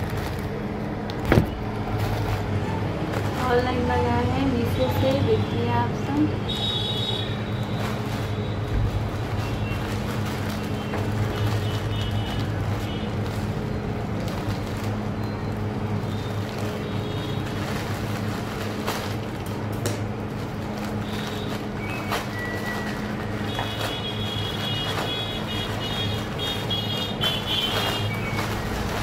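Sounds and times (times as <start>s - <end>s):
plastic crackling: 0.0s - 29.0s
plastic mailer being handled: 0.0s - 29.0s.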